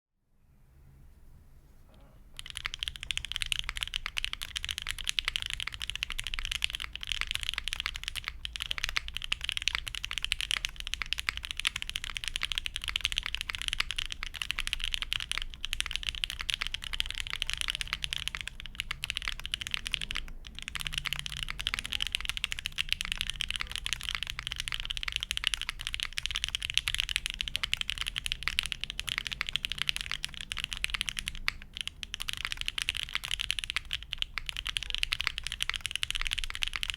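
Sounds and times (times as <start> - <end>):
typing on mechanical keyboard: 2.4 - 36.9.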